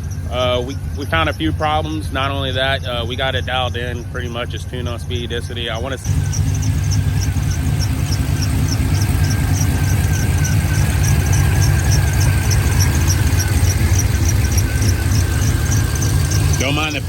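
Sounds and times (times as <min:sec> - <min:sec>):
belt chirping: 0:00.0 - 0:17.0
belt squeal: 0:00.0 - 0:17.0
truck engine running: 0:00.0 - 0:17.0.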